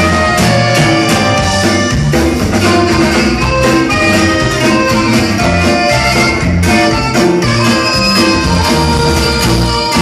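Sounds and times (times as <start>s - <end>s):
button accordion: 0.0s - 10.0s
drum kit steady beat: 0.0s - 10.0s
electric bass: 0.0s - 10.0s
saxophone: 0.0s - 10.0s.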